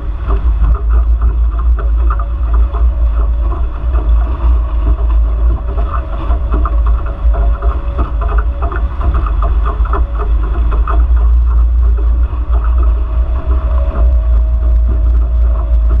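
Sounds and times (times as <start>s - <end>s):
faint steady hum: 0.0s - 16.0s
water rushing and splashing: 0.0s - 16.0s
wind buffeting microphone: 0.0s - 16.0s.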